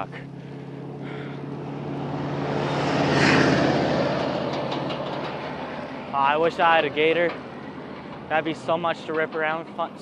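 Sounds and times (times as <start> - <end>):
truck driving past: 0.0 - 10.0.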